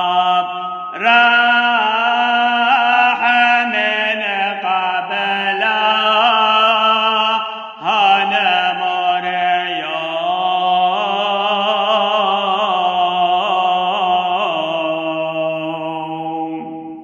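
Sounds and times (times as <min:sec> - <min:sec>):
man chanting a hymn: 0:00.0 - 0:16.8.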